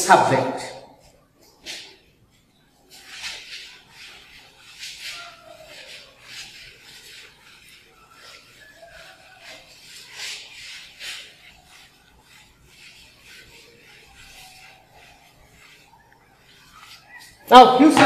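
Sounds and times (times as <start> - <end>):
duster rubbing blackboard: 1.6 - 18.0.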